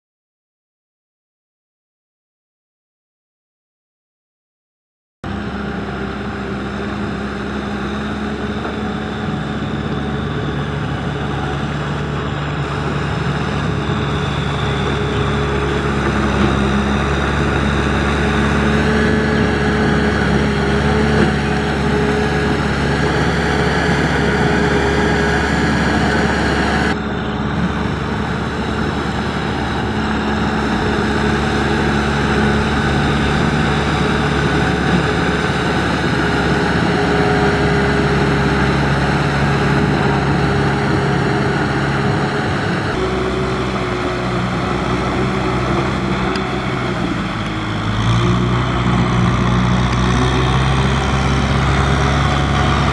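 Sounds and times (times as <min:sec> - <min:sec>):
tractor diesel engine running: 0:05.2 - 0:52.9.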